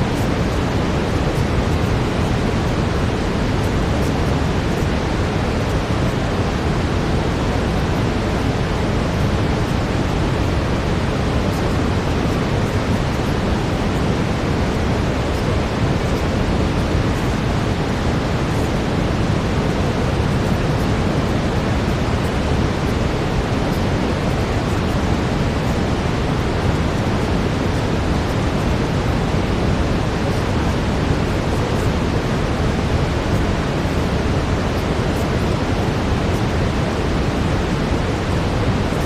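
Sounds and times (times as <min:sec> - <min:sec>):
deep rushing brown noise: 0:00.0 - 0:39.0.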